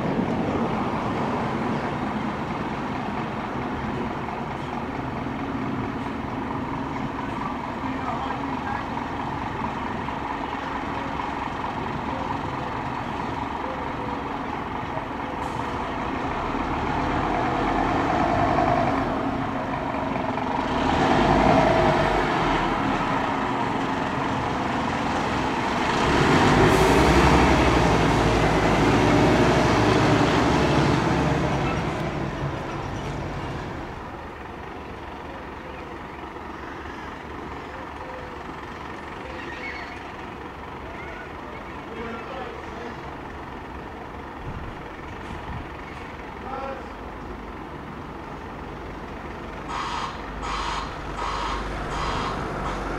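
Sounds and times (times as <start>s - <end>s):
fire engine diesel engine: 0.0s - 52.9s.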